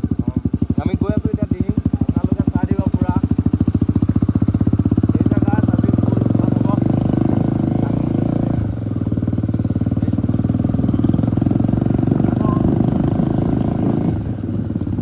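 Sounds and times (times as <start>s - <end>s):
motorcycle engine running rough: 0.0s - 15.0s.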